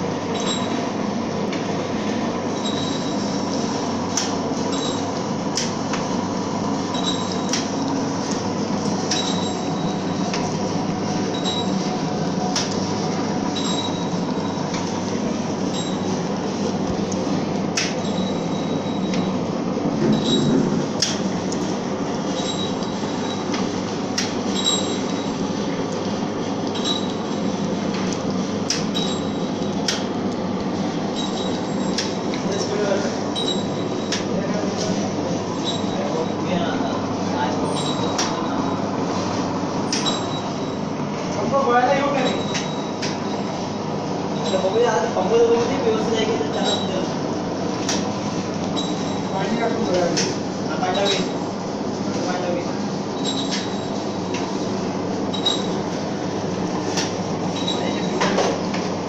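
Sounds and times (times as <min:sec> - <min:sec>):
packing machine humming: 0:00.0 - 0:59.0.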